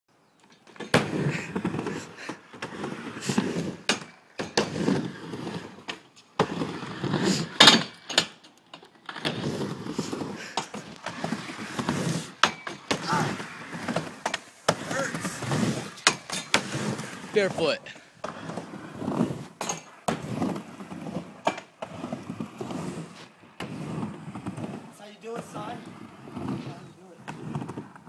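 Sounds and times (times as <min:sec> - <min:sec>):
skateboard wheels rumbling on ramp: 0:00.6 - 0:08.1, 0:08.9 - 0:28.0.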